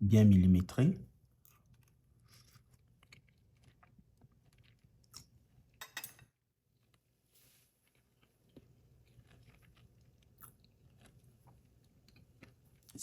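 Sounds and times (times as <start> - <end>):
person chewing food: 1.2 - 5.8, 6.7 - 13.0.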